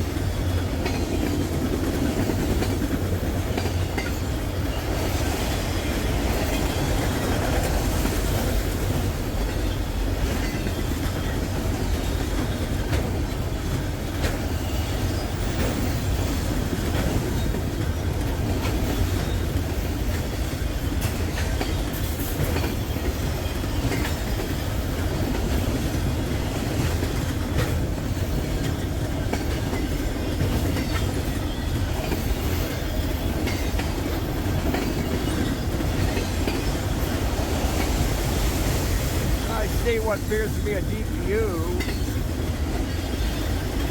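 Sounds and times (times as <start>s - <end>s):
freight train rumbling past: 0.0s - 43.9s
wheels clacking over rail joints: 0.0s - 43.9s.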